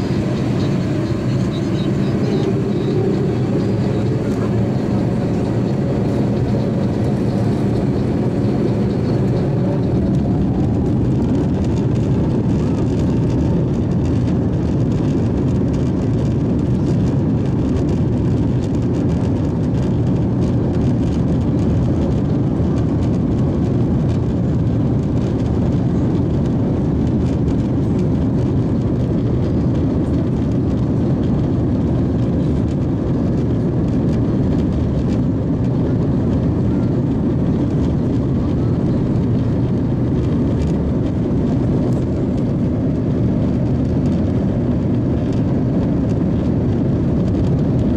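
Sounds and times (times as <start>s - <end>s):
aircraft engines droning: 0.0s - 47.9s.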